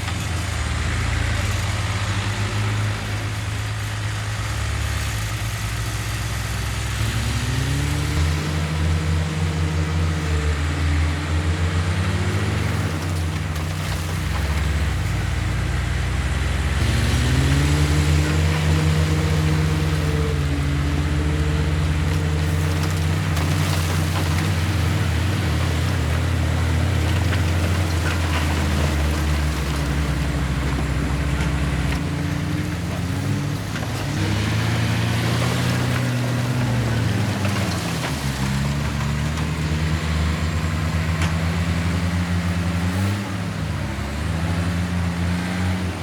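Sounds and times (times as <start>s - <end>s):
heavy diesel machinery engine: 0.0s - 46.0s.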